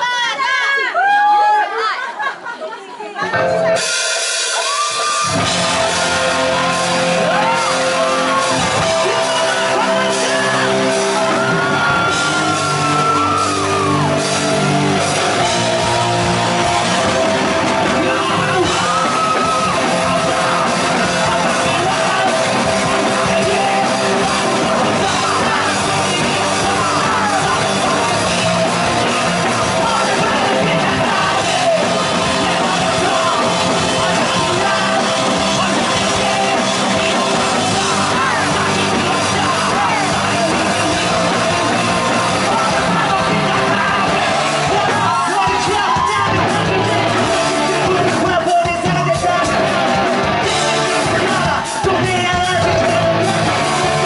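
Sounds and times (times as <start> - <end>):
live rock band playing: 3.2 - 54.0
man singing and shouting: 4.6 - 54.0.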